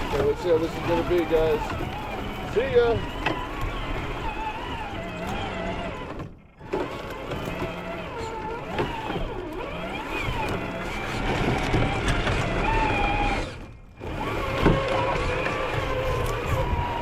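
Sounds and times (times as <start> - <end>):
toy car electric motor whining: 0.0 - 17.0.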